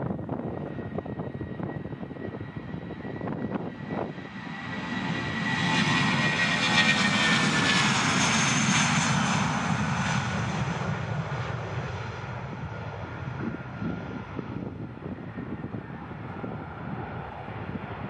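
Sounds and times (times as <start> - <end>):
high engine whine: 0.0 - 18.0
jet engines at takeoff: 0.0 - 18.0.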